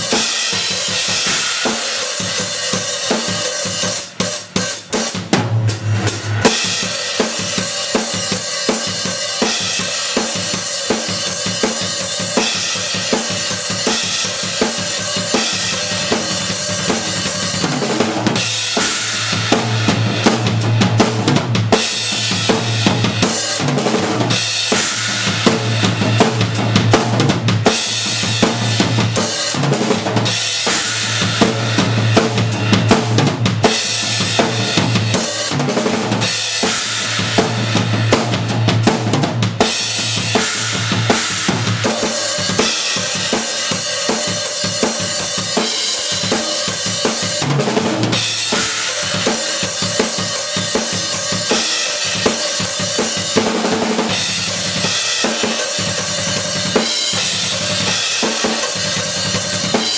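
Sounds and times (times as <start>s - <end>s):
rock drum kit playing fast: 0.0s - 59.9s.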